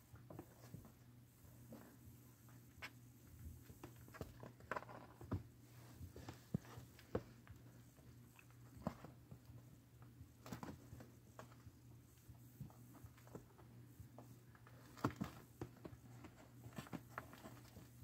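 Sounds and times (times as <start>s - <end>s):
kittens pawing cardboard box: 0.0s - 18.0s.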